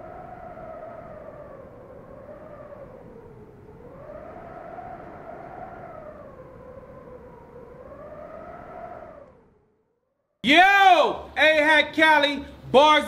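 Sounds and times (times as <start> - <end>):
siren wailing: 0.0 - 11.4.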